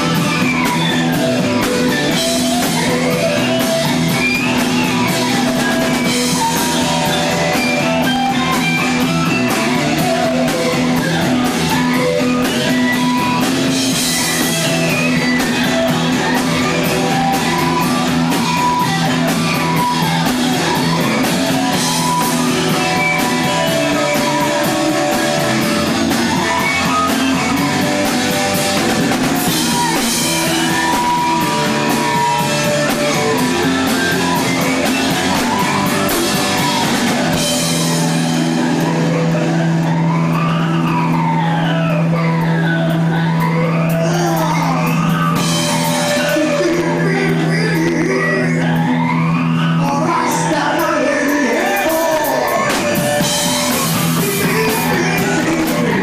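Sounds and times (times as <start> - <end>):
drum kit: 0.0 - 56.0
electric bass: 0.0 - 56.0
electric guitars: 0.0 - 56.0.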